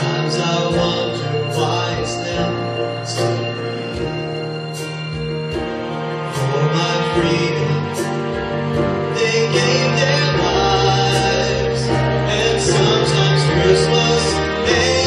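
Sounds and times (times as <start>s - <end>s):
man singing into a microphone: 0.0s - 4.0s, 6.2s - 15.0s
instrumental accompaniment: 0.0s - 15.0s.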